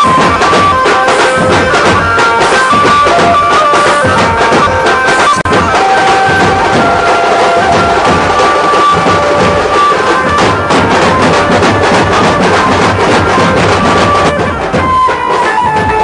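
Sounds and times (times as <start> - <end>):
fast drumming: 0.0 - 16.0.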